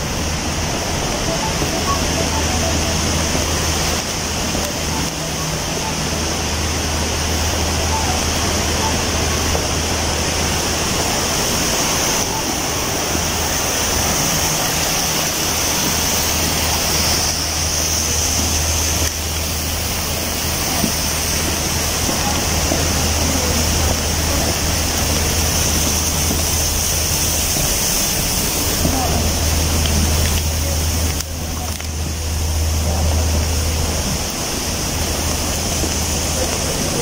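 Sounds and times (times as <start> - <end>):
splashing fountain water: 0.0 - 37.0.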